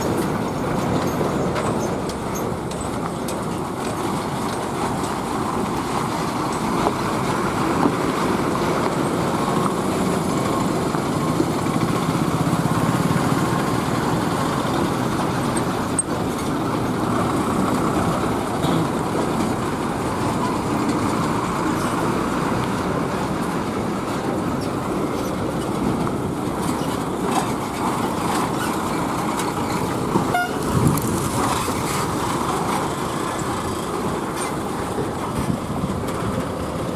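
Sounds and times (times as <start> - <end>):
heavy trucks driving past: 0.0 - 36.9.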